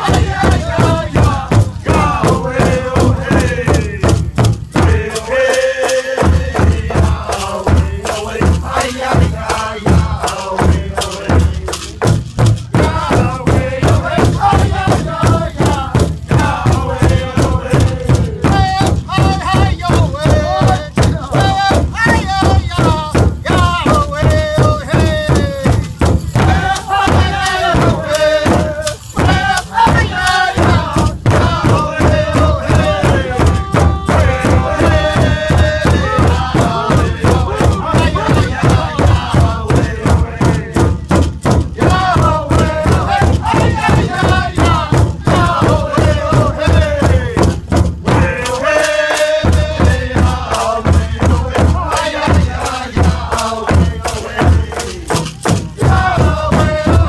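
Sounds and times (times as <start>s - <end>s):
large drum beating: 0.0s - 57.0s
men singing in unison: 0.0s - 57.0s.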